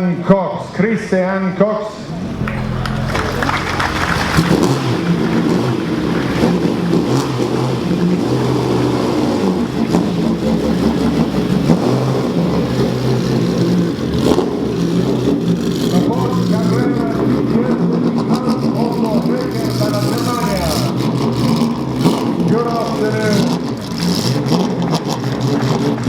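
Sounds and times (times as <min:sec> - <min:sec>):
car engine revving: 0:01.8 - 0:26.0.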